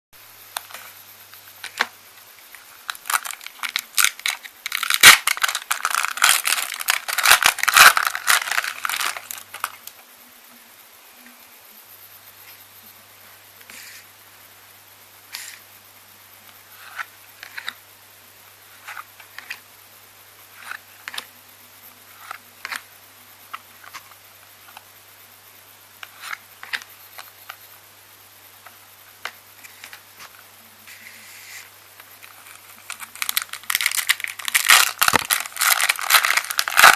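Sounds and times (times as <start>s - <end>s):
steady background hiss: 0.2s - 36.9s.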